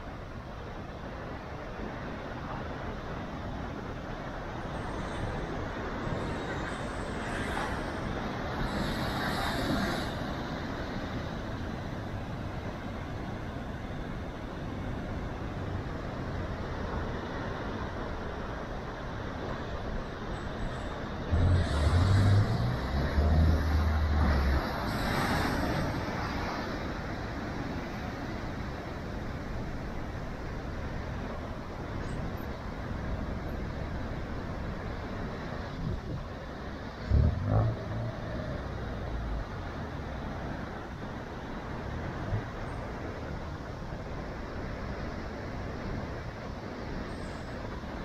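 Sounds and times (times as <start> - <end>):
surf roaring: 0.0 - 48.0
waves crashing on rocks: 0.9 - 48.0.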